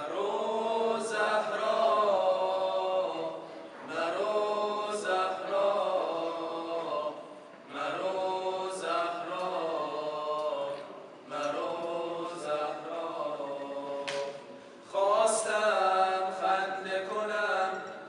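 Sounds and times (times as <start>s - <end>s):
male vocal group chanting: 0.0s - 18.0s.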